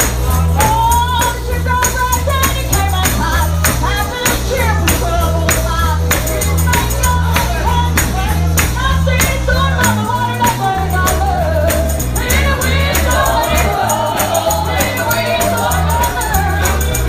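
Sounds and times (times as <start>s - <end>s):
stepping bass line: 0.0s - 17.0s
tambourine hits: 0.0s - 17.0s.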